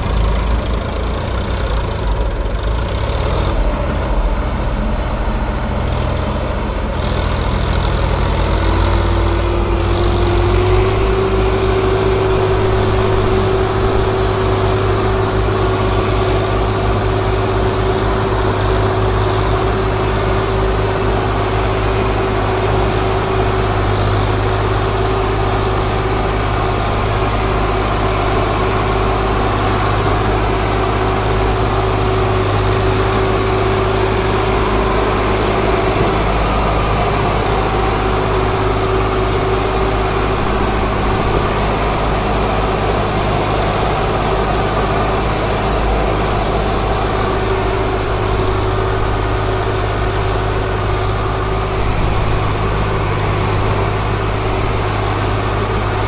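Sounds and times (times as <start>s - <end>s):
tractor engine under heavy load: 0.0s - 56.0s
steady whine: 3.4s - 56.0s.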